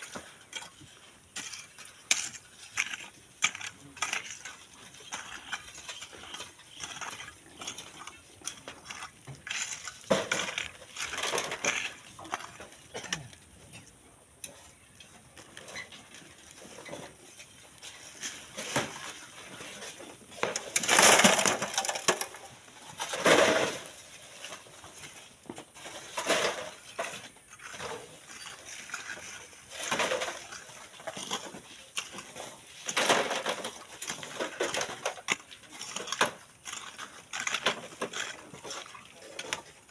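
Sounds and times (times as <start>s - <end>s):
shovels scraping sand and gravel: 0.0s - 39.9s.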